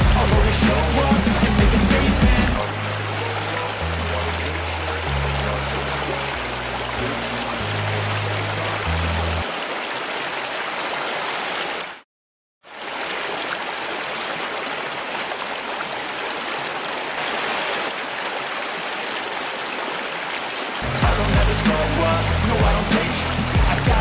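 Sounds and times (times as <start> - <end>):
creek water rushing into whirlpool: 0.1 - 12.0, 12.7 - 24.0.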